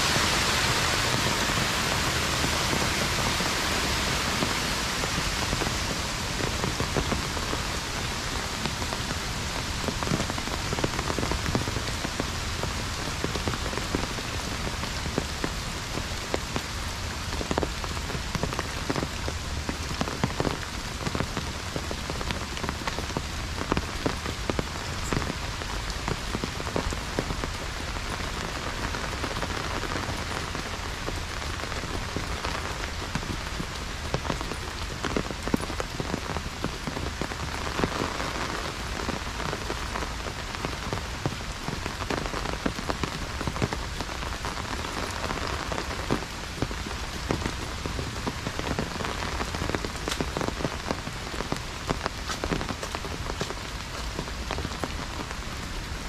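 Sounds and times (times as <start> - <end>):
heavy rain drumming on umbrella: 0.0 - 56.0.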